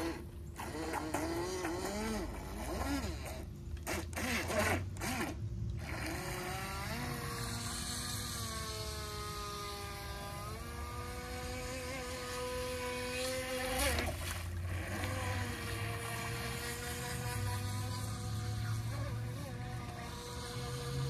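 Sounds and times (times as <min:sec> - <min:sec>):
boat motor whine: 0:00.0 - 0:21.0.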